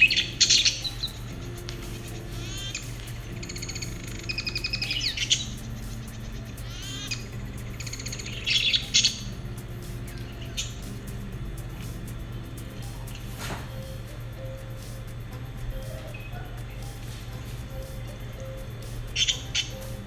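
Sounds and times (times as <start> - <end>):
quiet background music: 0.0 - 20.0.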